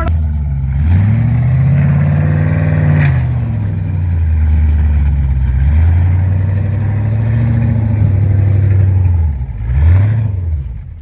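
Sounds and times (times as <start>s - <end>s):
engine revving hard: 0.0s - 10.9s.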